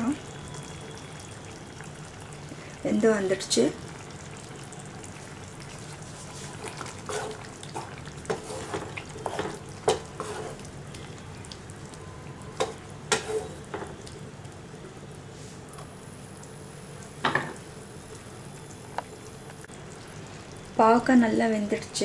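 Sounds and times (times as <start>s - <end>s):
gravy simmering with pops: 0.3s - 15.0s, 15.7s - 20.8s.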